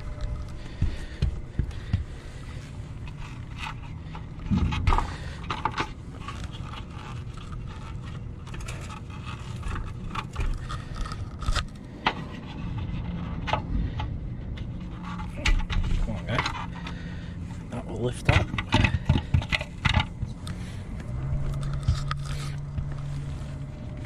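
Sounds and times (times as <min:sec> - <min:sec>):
plastic scraping and knocking: 0:00.0 - 0:17.3, 0:18.0 - 0:24.0
steady low hum: 0:00.0 - 0:24.0.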